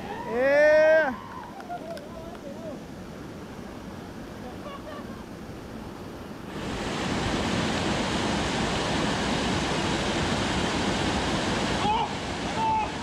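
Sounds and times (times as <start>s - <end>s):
rushing creek water: 0.0s - 13.0s.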